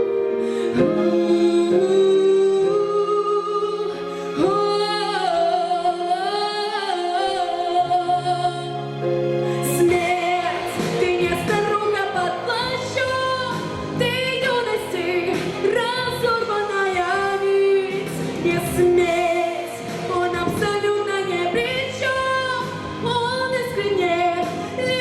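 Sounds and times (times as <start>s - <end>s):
instrumental accompaniment: 0.0s - 25.0s
woman singing with vibrato: 0.7s - 8.9s, 9.5s - 25.0s.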